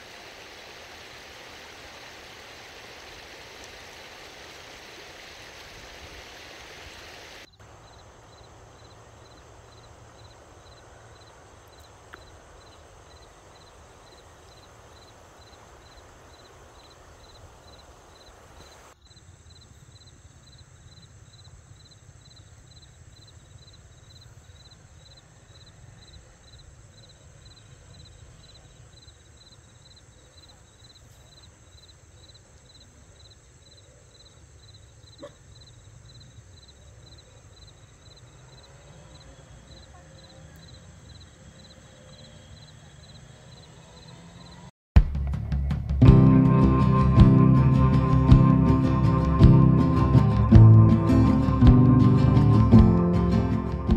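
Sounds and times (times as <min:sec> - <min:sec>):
insect chirping: 0:00.0 - 0:44.7
insects humming: 0:00.0 - 0:44.7.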